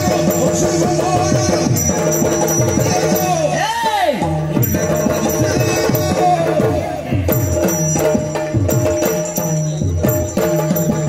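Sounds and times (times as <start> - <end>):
small hand cymbals ringing: 0.0 - 3.6, 4.6 - 6.4, 7.3 - 11.0.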